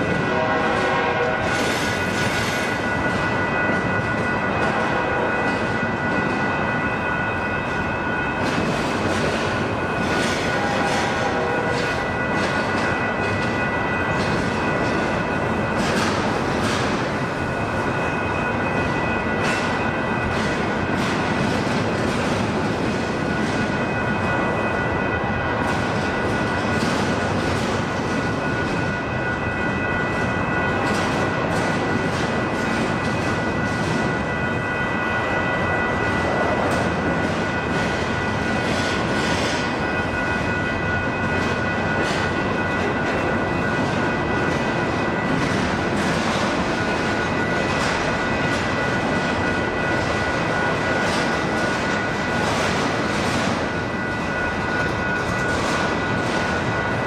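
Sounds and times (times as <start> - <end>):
freight train rumbling and clacking: 0.0 - 57.0.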